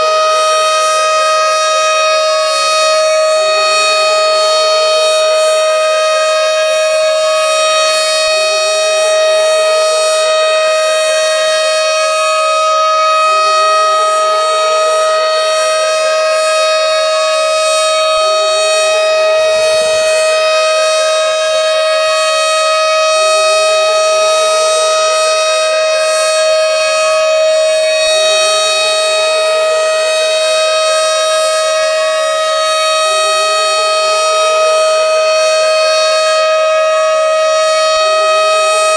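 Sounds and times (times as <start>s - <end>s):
tornado siren: 0.0s - 38.9s.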